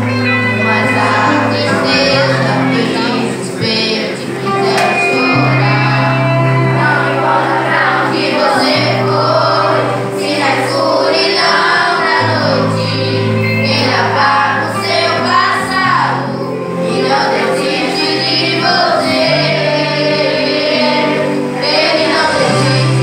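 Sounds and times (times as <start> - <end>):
acoustic guitar: 0.0 - 23.0
children singing: 0.0 - 23.0.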